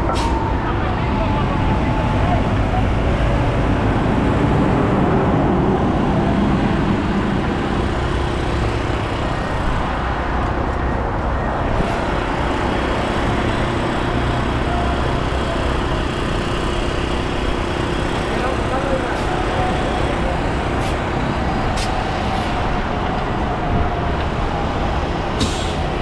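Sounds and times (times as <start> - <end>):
heavy truck engines and road noise: 0.0 - 26.0.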